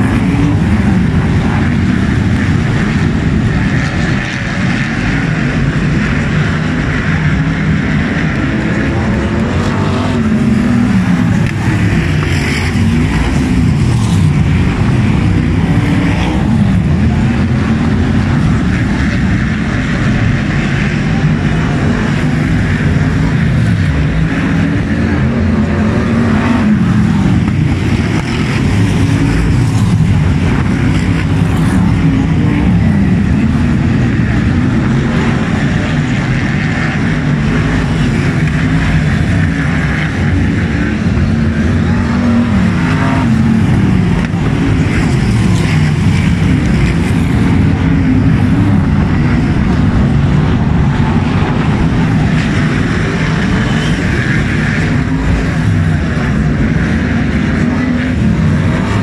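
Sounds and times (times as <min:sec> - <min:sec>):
racing car engines revving: 0:00.0 - 0:59.0
racing cars passing by: 0:00.0 - 0:59.0.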